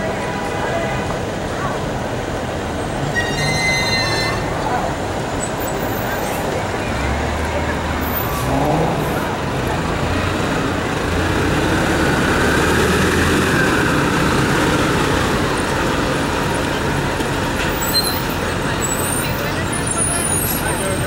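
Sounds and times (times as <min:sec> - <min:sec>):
bus engine driving past: 0:00.0 - 0:21.0
street traffic: 0:00.0 - 0:21.0.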